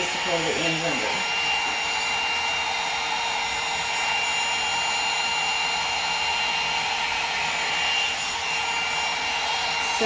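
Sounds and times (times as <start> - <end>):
blow dryer running: 0.0 - 10.0.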